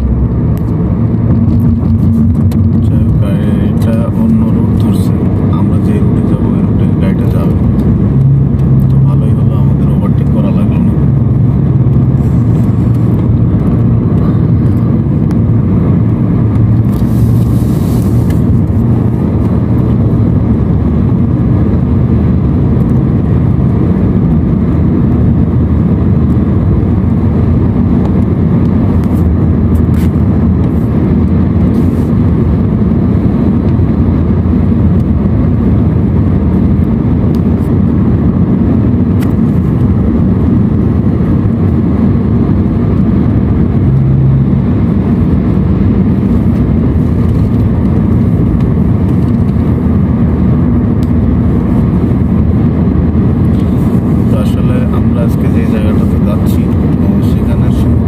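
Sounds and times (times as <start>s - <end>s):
car engine and tyre drone: 0.0s - 58.0s.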